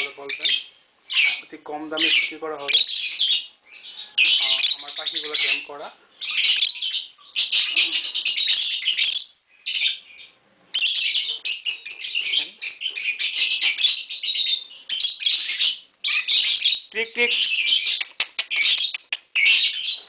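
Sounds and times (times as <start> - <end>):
lovebirds chirping: 0.0 - 20.0.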